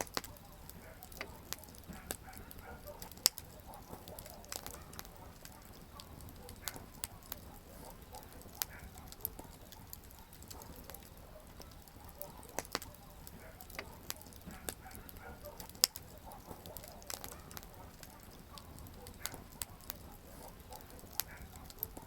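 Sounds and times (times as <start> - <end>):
campfire pops and snaps: 0.0 - 22.0
hiss of burning fire: 0.0 - 22.0.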